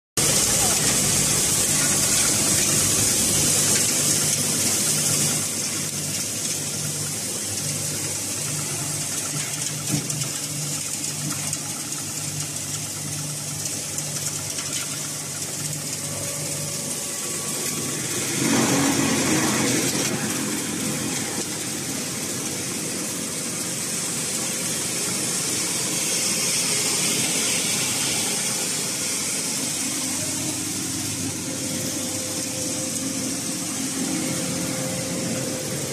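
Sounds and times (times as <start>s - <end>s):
rice mill motor humming: 0.2s - 35.9s.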